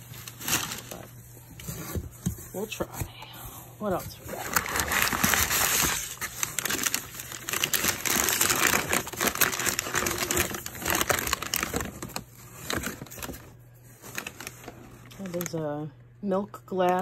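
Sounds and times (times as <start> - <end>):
packing paper crinkling: 0.0 - 3.1, 3.8 - 15.8.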